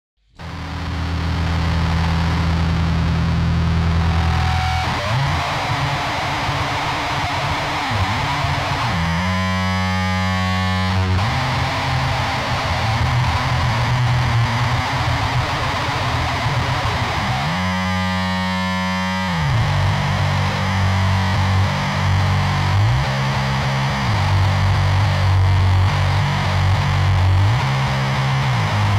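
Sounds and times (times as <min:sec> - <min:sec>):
distorted electric guitar chords: 0:00.3 - 0:28.9.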